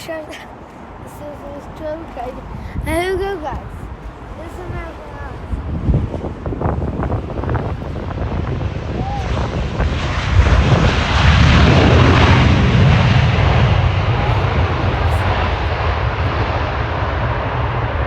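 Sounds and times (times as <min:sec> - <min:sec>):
jet engines roaring overhead: 0:00.0 - 0:18.0.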